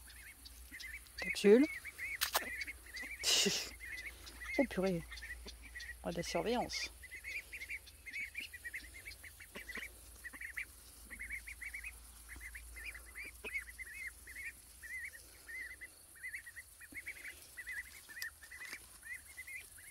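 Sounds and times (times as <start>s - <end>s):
ducks chirping: 0.0s - 19.9s.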